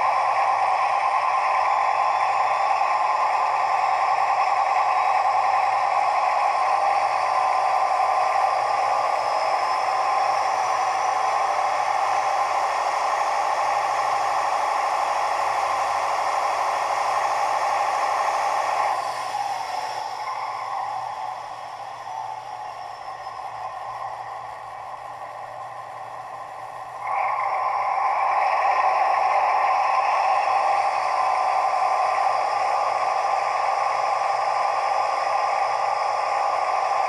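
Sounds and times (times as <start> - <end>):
model locomotive diesel engine sound: 0.0 - 37.0.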